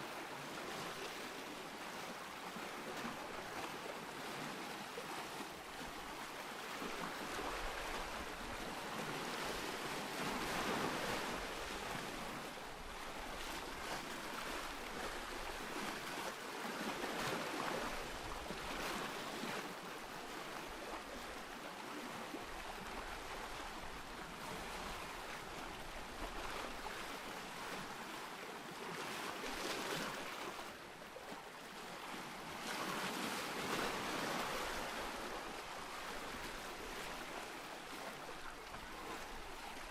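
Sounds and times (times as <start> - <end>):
ocean waves breaking: 0.1 - 39.9.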